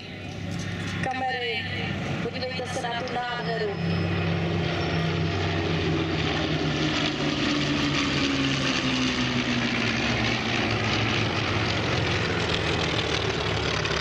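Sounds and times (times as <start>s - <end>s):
piston engine aircraft droning: 0.0s - 14.0s.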